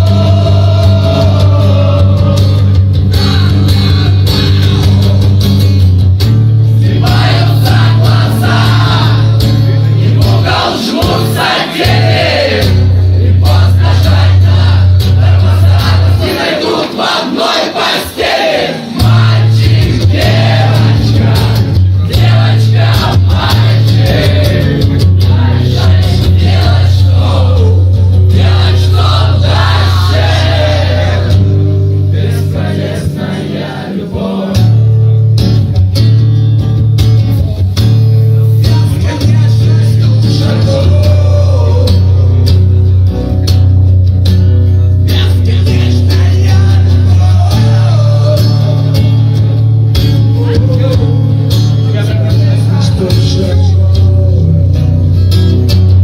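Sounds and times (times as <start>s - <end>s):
man singing: 0.0s - 5.9s, 6.8s - 16.4s, 18.8s - 34.9s, 38.3s - 42.7s, 45.0s - 55.1s
loud steady bass: 0.0s - 16.4s, 18.9s - 33.3s, 34.6s - 56.0s
acoustic guitar: 0.0s - 56.0s.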